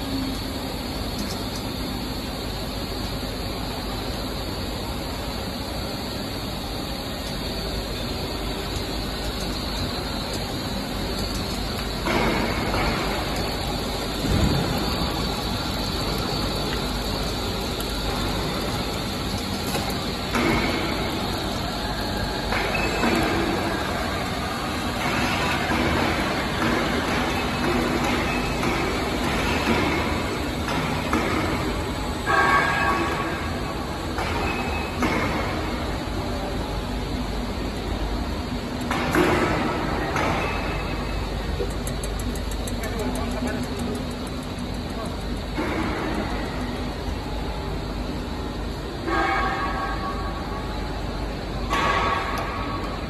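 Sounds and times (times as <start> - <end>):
machinery hum and rushing: 0.0 - 53.0.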